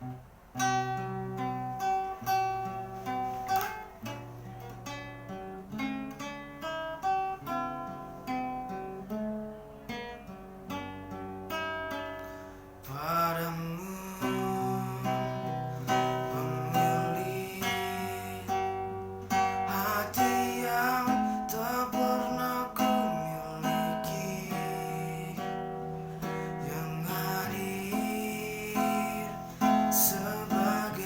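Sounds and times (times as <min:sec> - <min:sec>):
acoustic guitar melody: 0:00.0 - 0:31.0.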